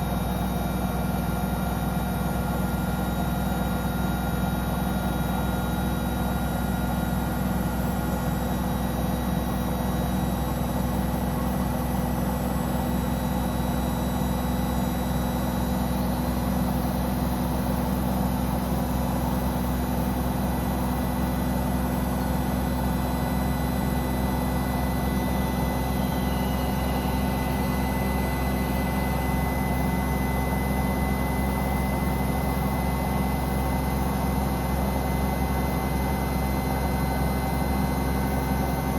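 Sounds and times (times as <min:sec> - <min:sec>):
motor whine: 0:00.0 - 0:38.9
washing machine spinning: 0:00.0 - 0:38.9.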